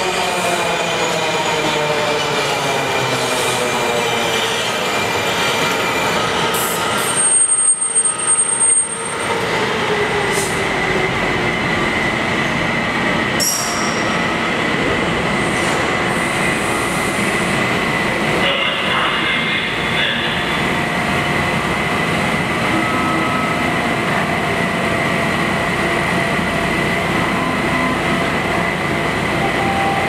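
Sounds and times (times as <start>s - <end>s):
subway train braking to a stop: 0.0s - 30.0s.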